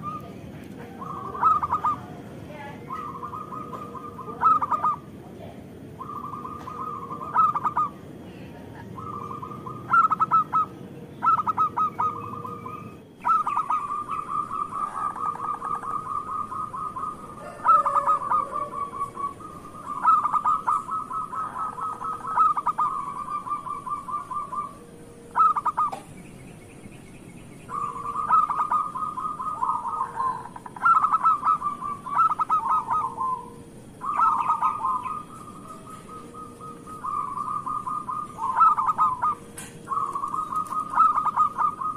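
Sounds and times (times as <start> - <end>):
dove cooing: 0.0 - 27.0, 27.6 - 41.9.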